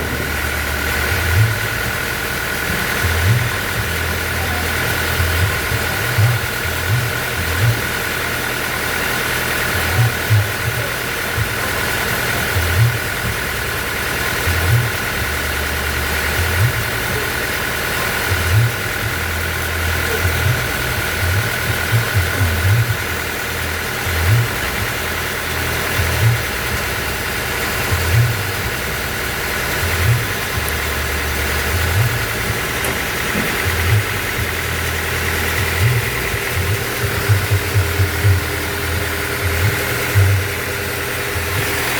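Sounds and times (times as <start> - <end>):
high mechanical whine: 0.0 - 41.9
low mechanical pulse: 0.0 - 41.9
sawmill machinery drone: 0.0 - 41.9.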